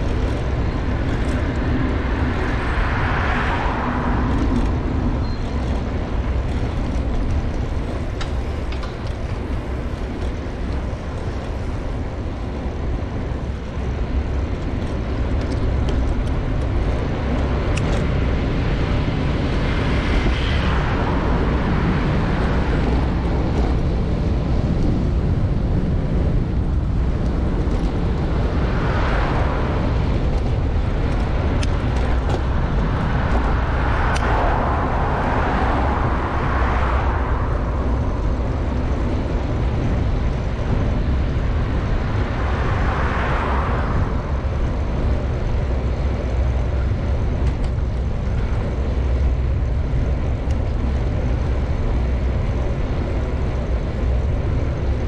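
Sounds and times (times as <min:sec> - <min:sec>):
cars passing: 0:00.0 - 0:55.0
wind rumbling on microphone: 0:00.0 - 0:55.0.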